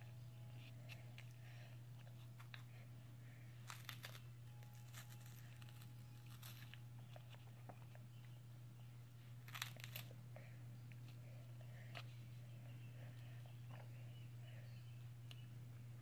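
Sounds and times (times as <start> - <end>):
steady low hum: 0.0 - 16.0
baby chewing crisp wafer: 0.1 - 8.4, 9.2 - 14.2.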